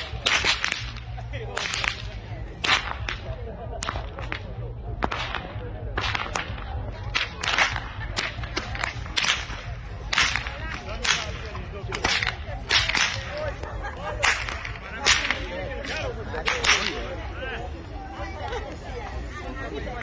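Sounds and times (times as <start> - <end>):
whip cracks: 0.0 - 17.1.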